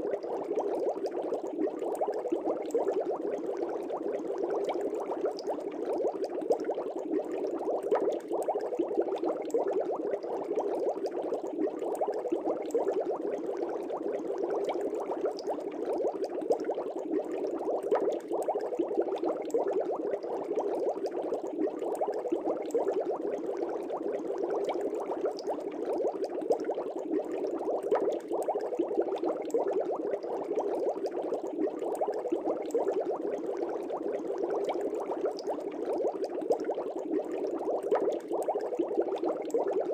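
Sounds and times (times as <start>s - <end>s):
air bubbling through aquarium water: 0.0s - 39.9s.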